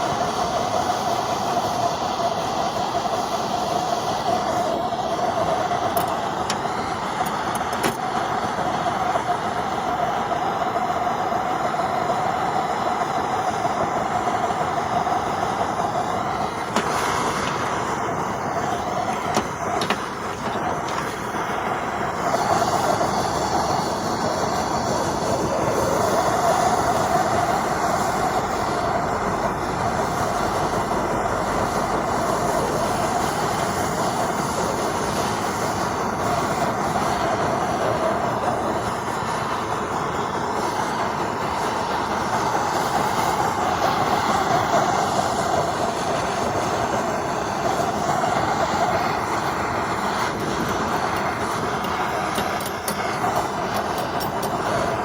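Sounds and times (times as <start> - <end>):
blowtorch flame burning: 0.0 - 55.0.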